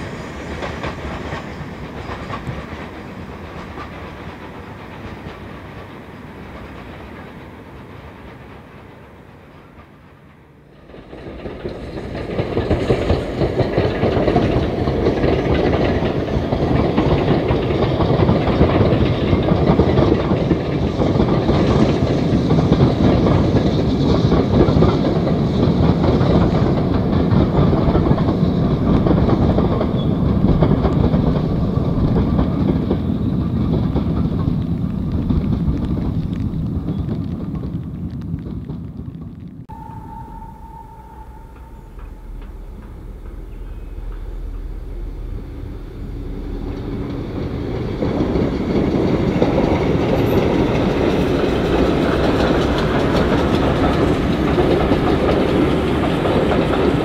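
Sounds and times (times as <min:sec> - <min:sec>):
steam locomotive exhaust: 0:00.0 - 0:35.6, 0:39.7 - 0:57.0
steam train passing: 0:00.0 - 0:38.1, 0:39.6 - 0:57.0
wheels clattering over rail joints: 0:00.0 - 0:57.0.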